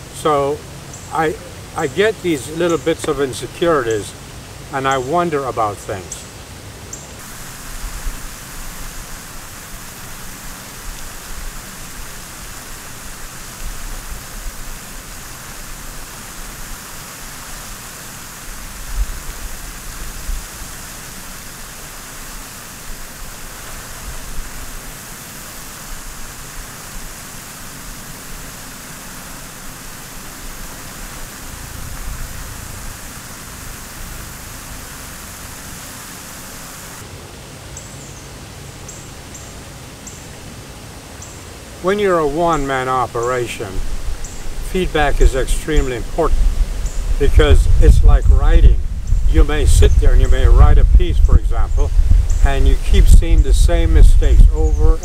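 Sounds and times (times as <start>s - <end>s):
outdoor ambient hiss: 0.0s - 55.0s.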